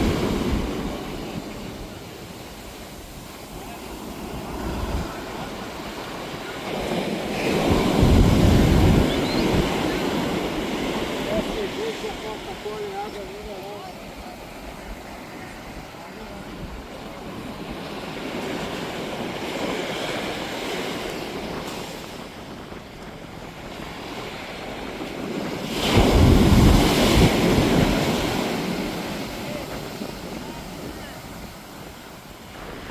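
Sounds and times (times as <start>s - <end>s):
surf washing onto beach: 0.0s - 32.9s
wind on microphone: 0.0s - 32.9s.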